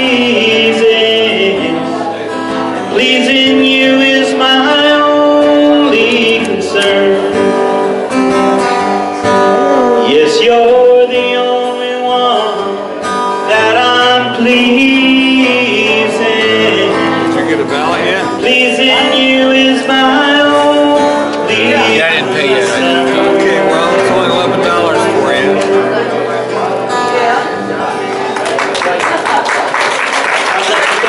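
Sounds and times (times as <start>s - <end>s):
man singing a hymn: 0.0s - 7.8s, 9.3s - 26.6s
acoustic guitar: 0.0s - 31.0s.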